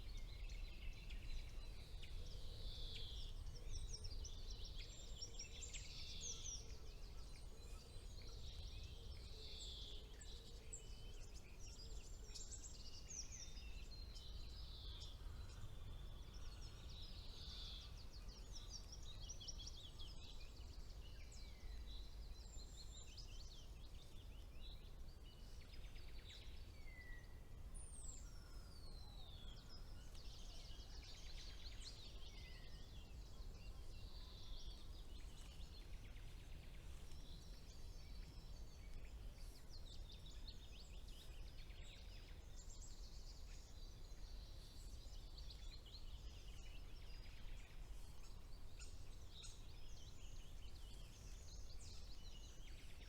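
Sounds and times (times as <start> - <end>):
songbirds trilling and chirping: 0.0 - 53.0.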